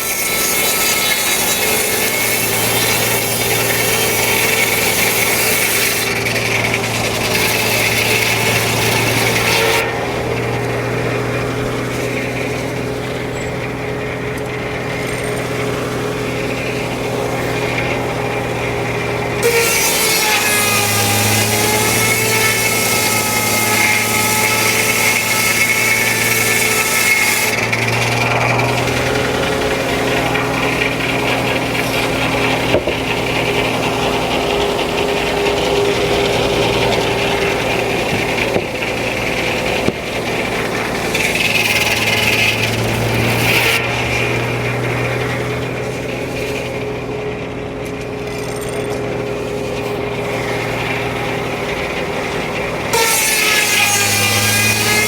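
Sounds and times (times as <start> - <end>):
circular sawmill running: 0.0 - 55.0
saw blade whining through log: 0.0 - 55.0.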